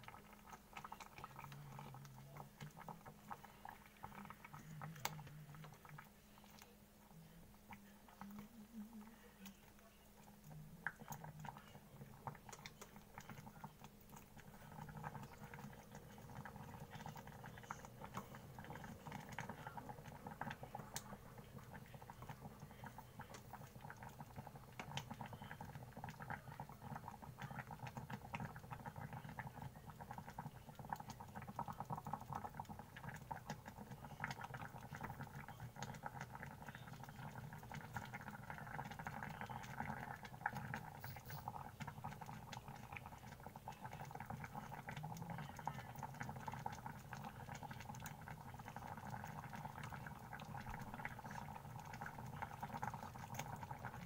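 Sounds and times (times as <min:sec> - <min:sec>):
milk simmering with bubbling pops: 0:00.0 - 0:54.0.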